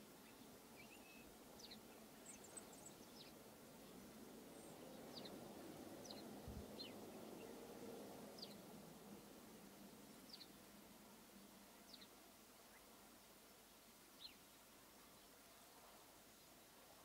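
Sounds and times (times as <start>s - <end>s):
small birds chirping: 0.0s - 8.7s, 9.9s - 16.9s
outdoor background hiss: 0.0s - 17.0s.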